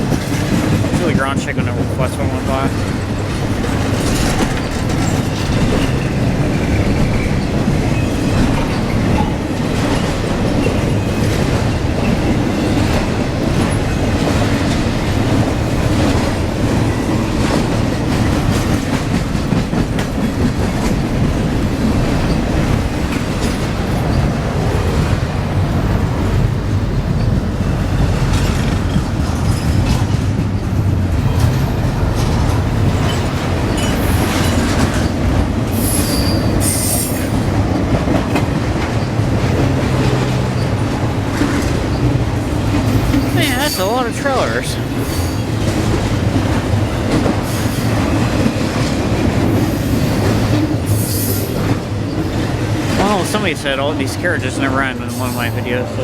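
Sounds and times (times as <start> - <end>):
wheels clicking over rail joints: 0.0 - 54.2
freight train rumbling past: 0.0 - 56.0.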